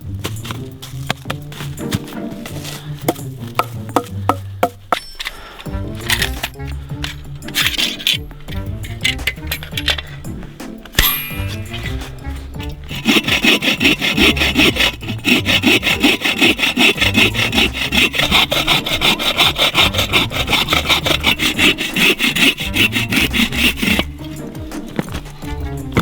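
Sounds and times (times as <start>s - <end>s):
hand saw cutting wood: 0.4s - 26.0s.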